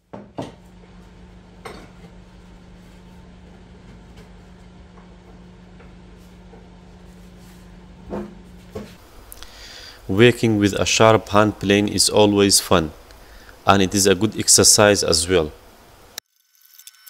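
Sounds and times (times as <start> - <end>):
steady low hum: 0.2 - 16.2.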